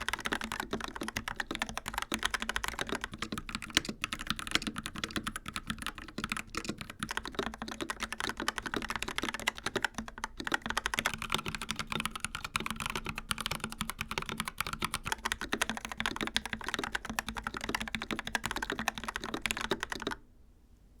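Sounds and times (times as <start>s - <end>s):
fast typing on mechanical keyboard: 0.0s - 20.2s.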